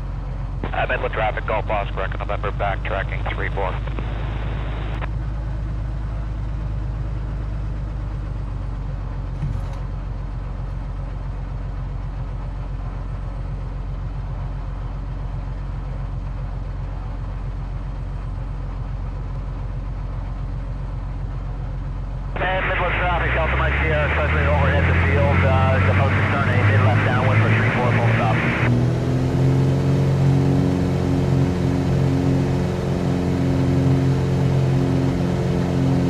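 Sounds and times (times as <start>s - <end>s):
aircraft engine droning in cabin: 0.0s - 36.0s.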